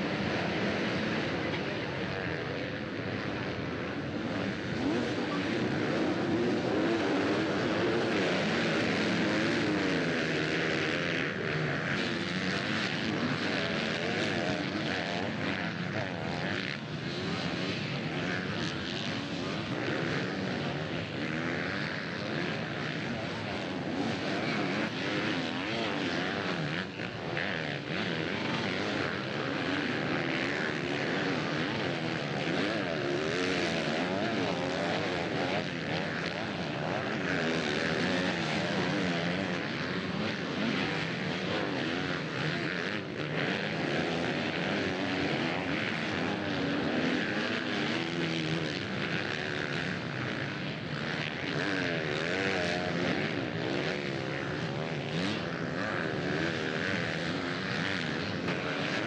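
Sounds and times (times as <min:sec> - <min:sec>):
motocross engines revving: 0:00.0 - 0:59.0.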